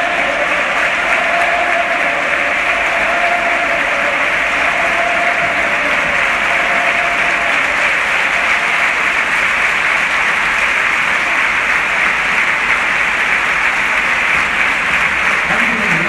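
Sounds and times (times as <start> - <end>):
stadium crowd applauding: 0.0 - 16.0.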